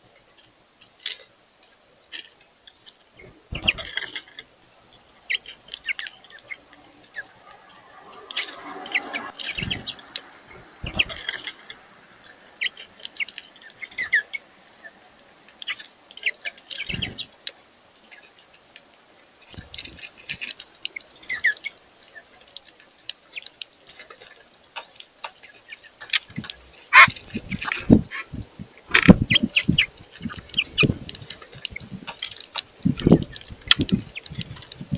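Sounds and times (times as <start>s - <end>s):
birds chirping: 1.8s - 34.9s.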